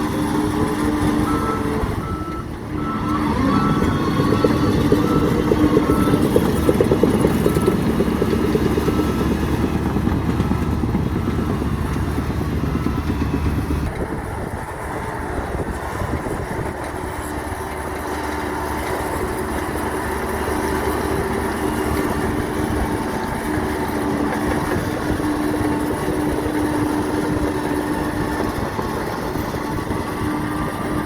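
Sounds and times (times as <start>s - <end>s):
model vehicles mechanical whine: 0.0s - 31.0s.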